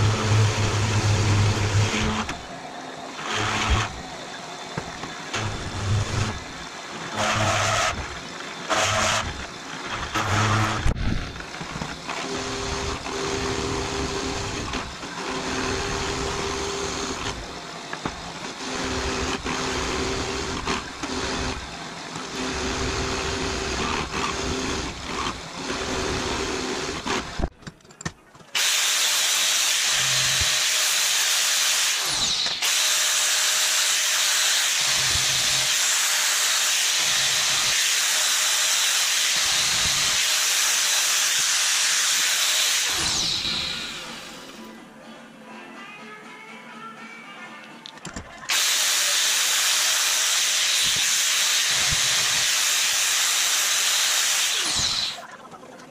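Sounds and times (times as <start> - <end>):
milling machine cutting steel: 0.0 - 27.5, 28.6 - 44.8, 48.5 - 55.2.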